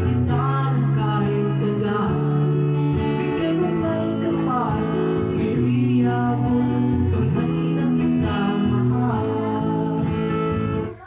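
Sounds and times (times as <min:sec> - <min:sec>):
guitar music with sustained notes: 0:00.0 - 0:11.0.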